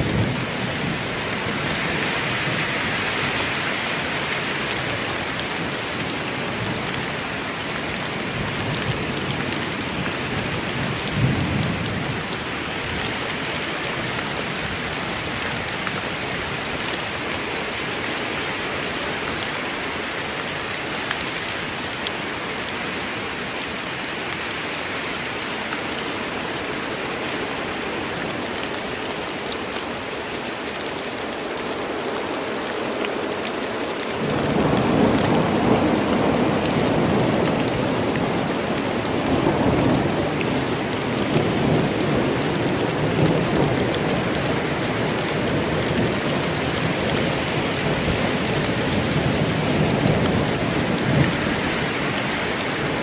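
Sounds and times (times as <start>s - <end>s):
rain falling in forest: 0.0s - 53.0s.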